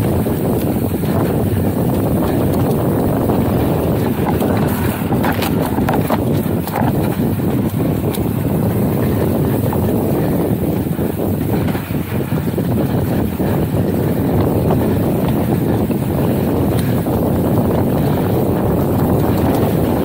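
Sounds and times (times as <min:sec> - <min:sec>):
bike clicks and rattles: 0:00.0 - 0:20.0
bike tyres rolling on dirt: 0:00.0 - 0:20.0
wind rushing over microphone: 0:00.0 - 0:20.0.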